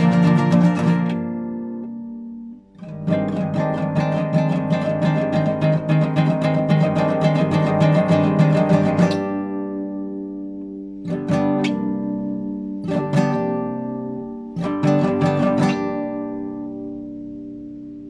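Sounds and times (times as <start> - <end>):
classical guitar playing: 0.0 - 18.0.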